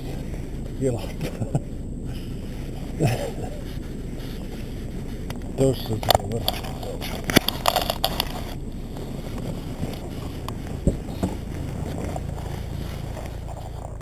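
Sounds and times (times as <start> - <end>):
low rumble of handling and wind: 0.0 - 14.0.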